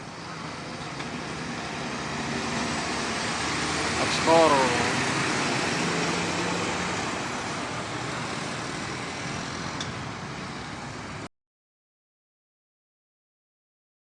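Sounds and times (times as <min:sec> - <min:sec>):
heavy truck passing: 0:00.0 - 0:11.3.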